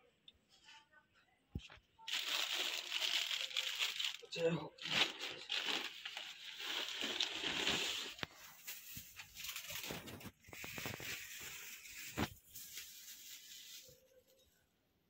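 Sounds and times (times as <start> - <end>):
plastic wrapping crinkling: 2.0 - 14.6.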